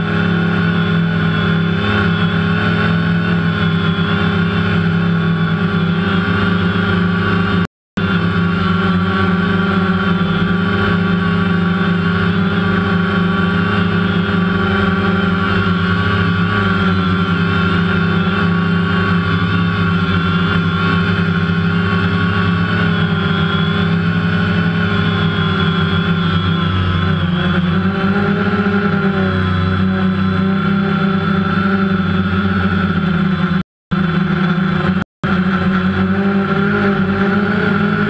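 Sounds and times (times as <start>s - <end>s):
drone propellers whining: 0.0s - 38.0s.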